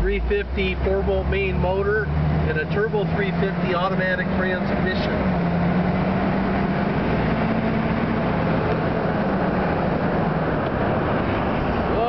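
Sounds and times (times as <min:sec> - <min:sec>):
car engine running: 0:00.0 - 0:12.0
tire and road noise: 0:00.0 - 0:12.0.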